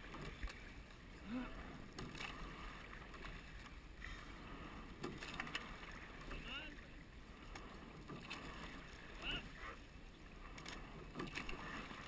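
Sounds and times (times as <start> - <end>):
water running along hull: 0.0 - 12.0.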